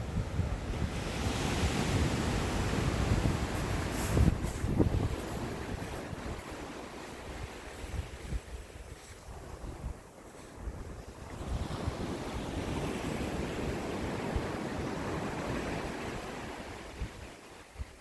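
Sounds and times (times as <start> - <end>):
ocean waves washing ashore: 0.0 - 18.0
wind buffeting microphone: 0.0 - 18.0.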